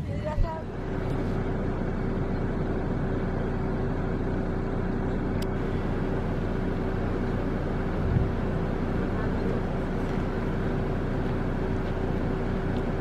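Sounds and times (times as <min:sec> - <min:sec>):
vehicle engine running steadily: 0:00.0 - 0:13.0.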